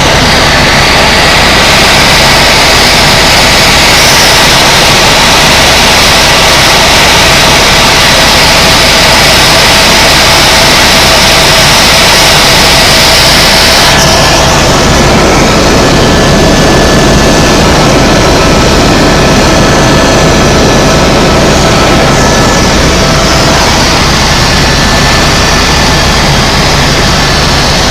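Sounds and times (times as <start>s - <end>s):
faint steady whine: 0.0s - 27.9s
helicopter cabin drone: 0.0s - 27.9s.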